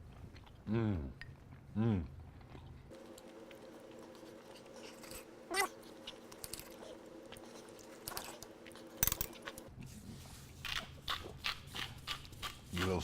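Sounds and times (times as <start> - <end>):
person chewing steak: 0.0 - 9.7, 10.6 - 13.0.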